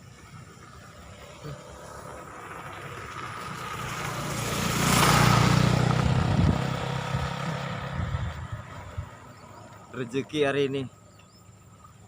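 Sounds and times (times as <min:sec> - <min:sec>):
small engine passing by: 0:00.0 - 0:09.9.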